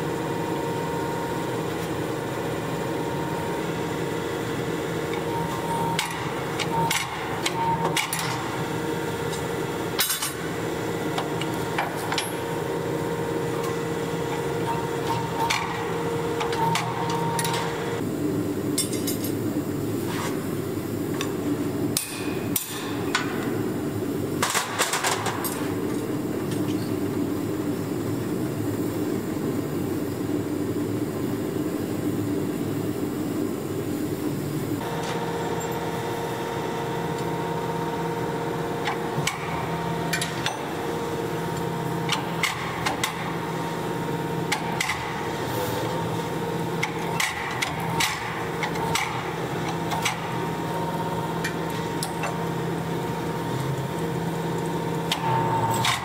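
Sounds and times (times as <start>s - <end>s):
forging machine humming: 0.0s - 56.0s
steady background noise: 0.0s - 56.0s.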